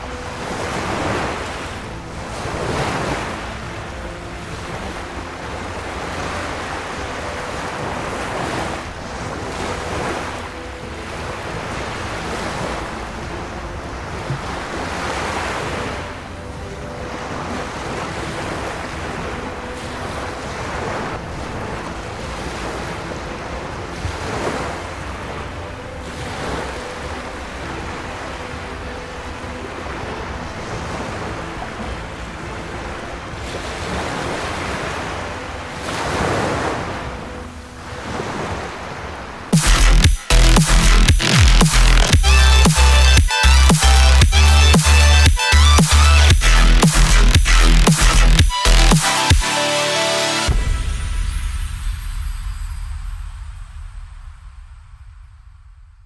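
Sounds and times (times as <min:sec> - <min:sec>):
waves washing onto shore: 0:00.0 - 0:52.0.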